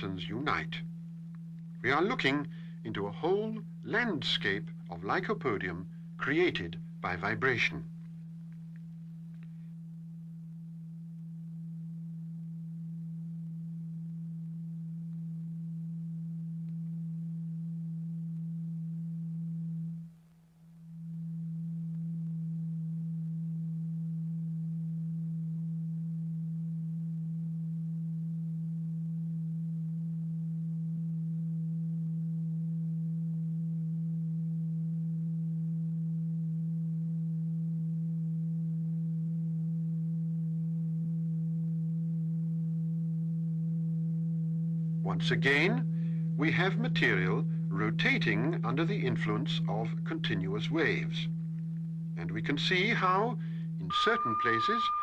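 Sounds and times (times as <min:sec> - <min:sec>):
low sine tone: 0:00.0 - 0:55.0.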